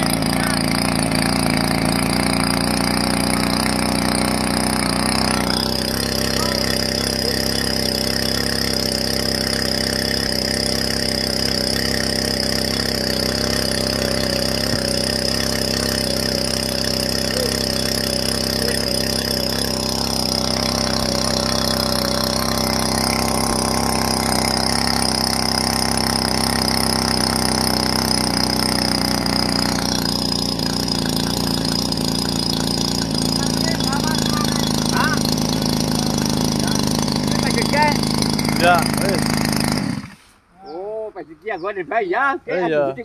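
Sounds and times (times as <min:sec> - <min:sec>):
small water pump engine running: 0:00.0 - 0:40.4
water jet splashing on pond: 0:00.0 - 0:40.5.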